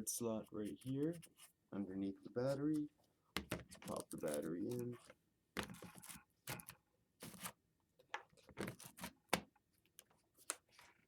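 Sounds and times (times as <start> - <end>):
plastic handling and scraping: 0.4 - 1.6, 2.4 - 11.0.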